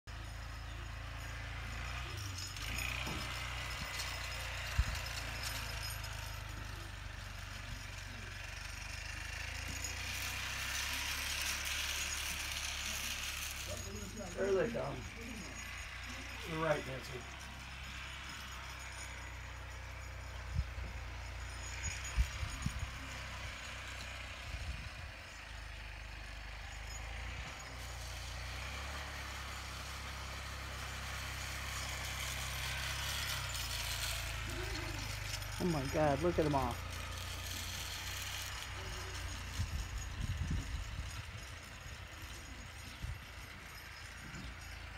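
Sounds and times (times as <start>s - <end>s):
vehicle engine humming: 0.1s - 44.9s.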